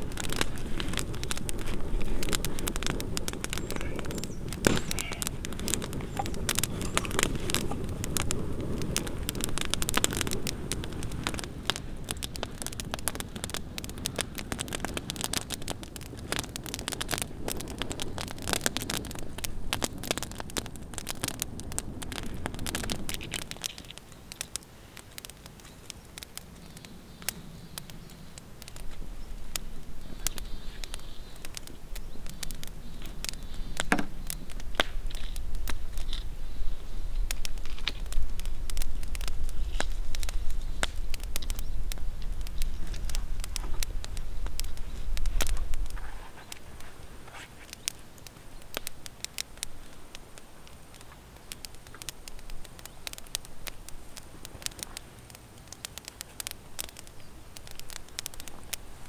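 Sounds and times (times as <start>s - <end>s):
campfire crackling and popping: 0.0s - 59.0s
rush of flame: 0.0s - 59.0s.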